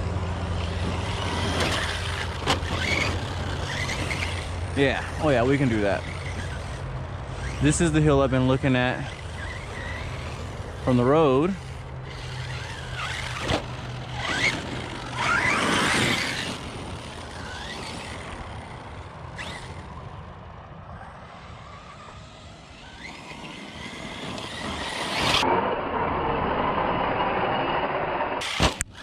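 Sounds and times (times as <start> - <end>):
electric motor whining: 0.4 - 20.1, 21.5 - 25.5.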